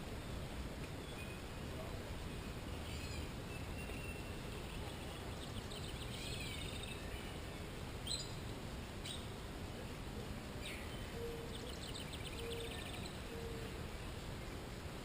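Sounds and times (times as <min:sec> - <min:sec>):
outdoor background noise: 0:00.0 - 0:15.0
songbird chirps and trills: 0:00.0 - 0:15.0.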